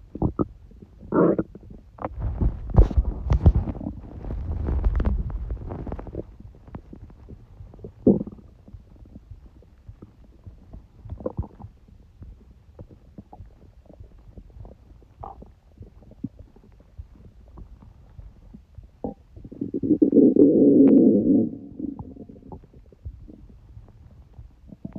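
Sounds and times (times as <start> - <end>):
stomach gurgling: 0.0 - 24.9.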